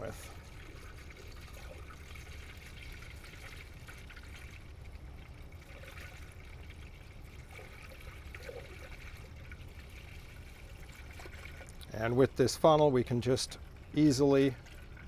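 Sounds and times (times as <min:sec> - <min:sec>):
liquid pouring into funnel: 0:00.0 - 0:15.0.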